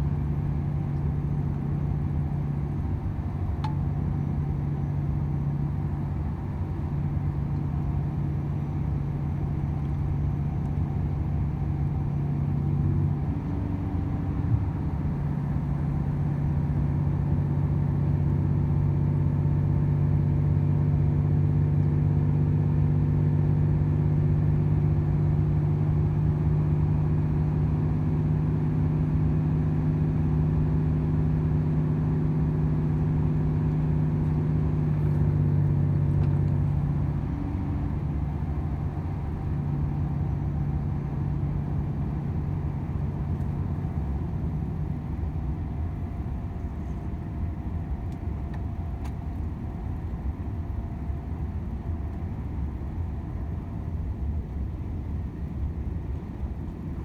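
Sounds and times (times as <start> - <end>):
rolling road noise: 0.0 - 21.1, 23.9 - 57.0
truck diesel engine droning: 0.0 - 48.9.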